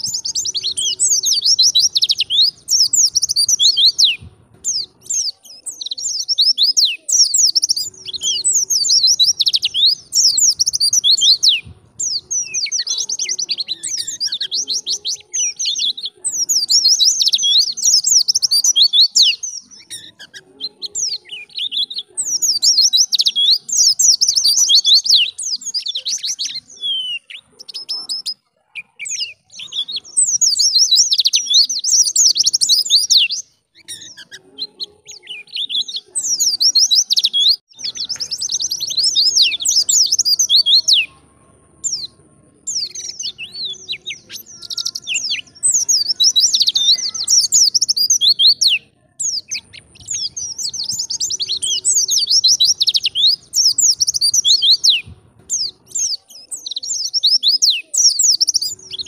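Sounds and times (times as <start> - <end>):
bird twittering: 0.0 - 41.2, 41.8 - 59.0.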